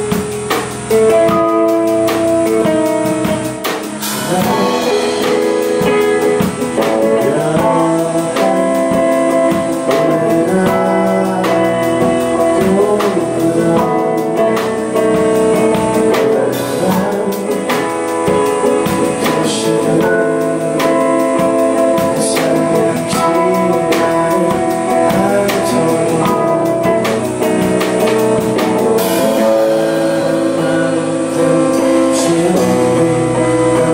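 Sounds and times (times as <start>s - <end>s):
drum kit steady beat: 0.0s - 33.9s
electric guitar strumming: 0.0s - 33.9s.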